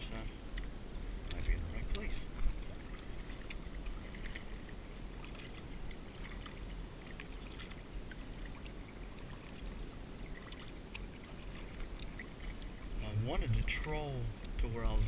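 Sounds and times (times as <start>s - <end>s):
paddle splashing water: 0.0s - 15.0s
steady low rumble: 0.0s - 15.0s.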